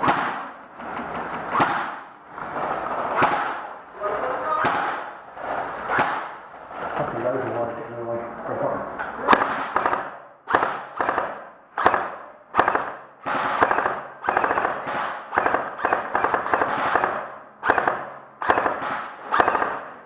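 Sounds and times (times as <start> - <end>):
airsoft guns firing bursts: 0.0 - 7.8, 9.3 - 20.0.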